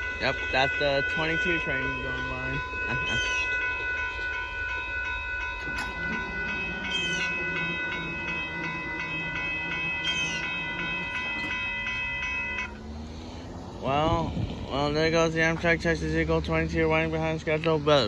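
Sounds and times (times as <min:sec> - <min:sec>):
crossing warning bell ringing: 0:00.0 - 0:18.0
train rumbling over rails: 0:00.0 - 0:18.0.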